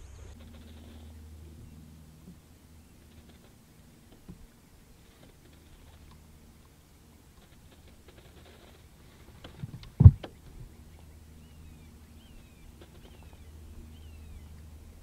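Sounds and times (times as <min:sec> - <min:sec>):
faint low steady hum: 0:00.0 - 0:15.0.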